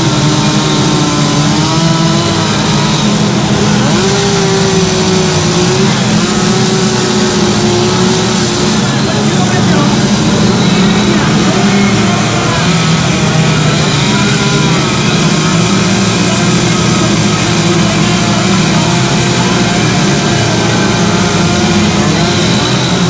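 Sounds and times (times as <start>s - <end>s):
chainsaw carving wood: 0.0s - 23.0s.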